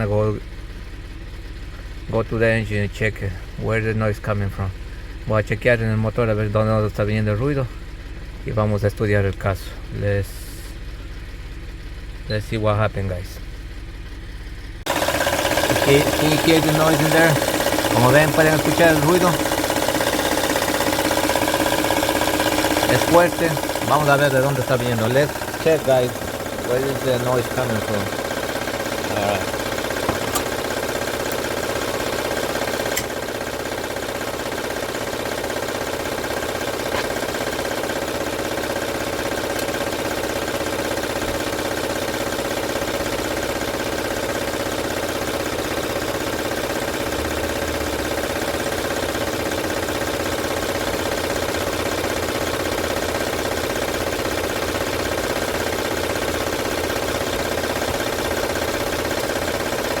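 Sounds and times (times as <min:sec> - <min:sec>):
car engine running: 0:00.0 - 1:00.0
loud engine rattle: 0:00.0 - 1:00.0.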